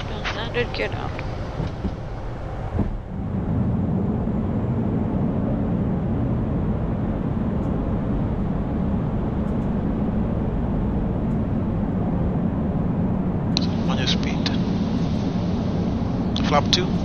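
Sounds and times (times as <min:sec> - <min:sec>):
cockpit airflow rumble: 0:00.0 - 0:17.0.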